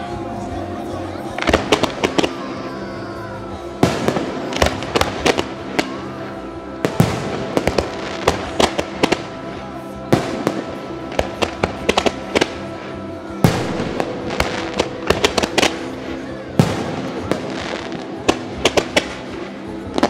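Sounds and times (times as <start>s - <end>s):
fireworks bursting with bangs: 0.0s - 20.0s
music: 0.0s - 20.0s.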